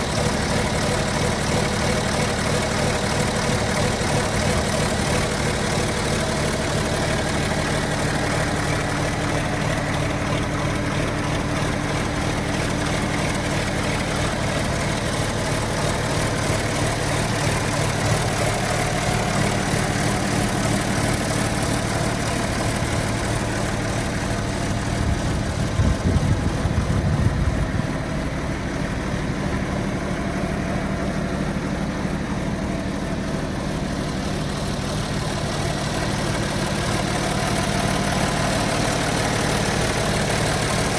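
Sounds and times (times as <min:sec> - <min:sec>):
diesel tractor engine idling: 0:00.0 - 0:40.9.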